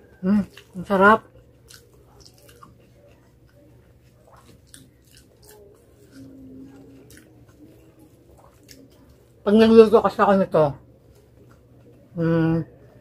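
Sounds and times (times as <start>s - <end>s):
person chewing food: 0.0s - 9.4s, 11.0s - 12.1s.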